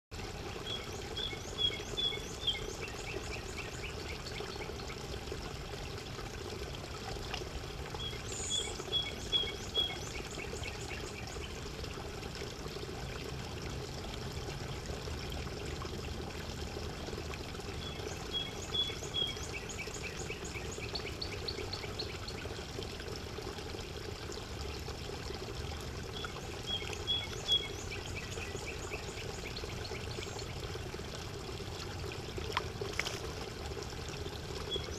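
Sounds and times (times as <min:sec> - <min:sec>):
running water: 0:00.1 - 0:34.9.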